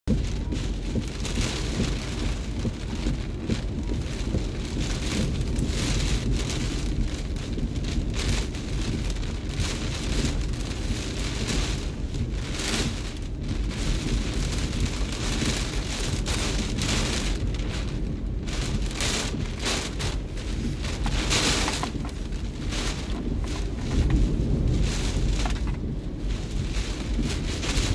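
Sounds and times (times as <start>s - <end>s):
gusting wind: 0.1s - 27.9s
heavy rain: 0.1s - 27.9s.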